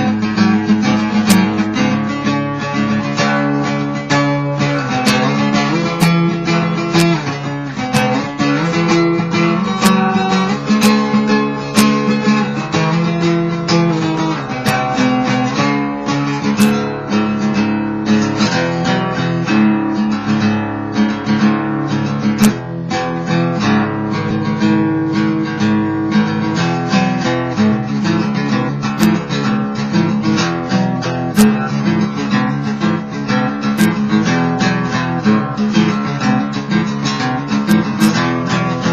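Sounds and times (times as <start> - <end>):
acoustic guitar picking: 0.0 - 38.9.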